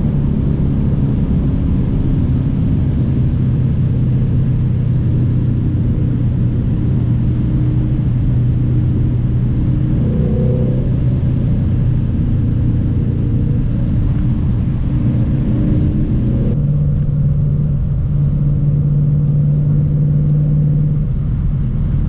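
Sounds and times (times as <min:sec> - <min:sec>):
car engine drone: 0:00.0 - 0:22.0
road rumble: 0:00.0 - 0:22.0.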